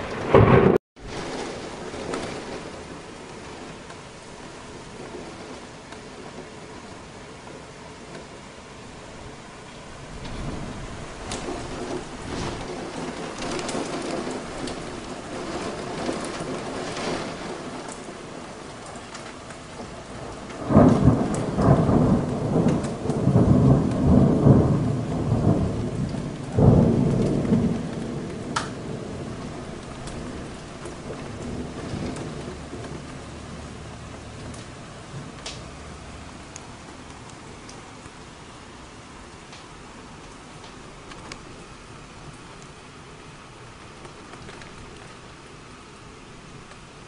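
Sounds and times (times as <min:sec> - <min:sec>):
thunder cracking and rumbling: 0:00.0 - 0:07.2, 0:09.0 - 0:41.6, 0:43.6 - 0:45.7
heavy rain pouring: 0:00.0 - 0:47.0.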